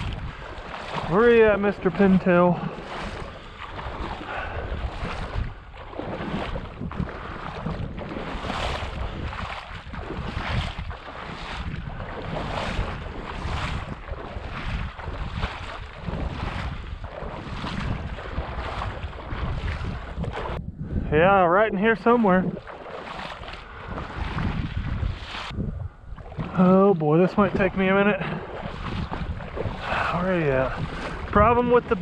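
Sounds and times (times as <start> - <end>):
sloshing steps in water: 0.0 - 20.6, 22.0 - 32.0
wind rumbling on microphone: 0.0 - 32.0.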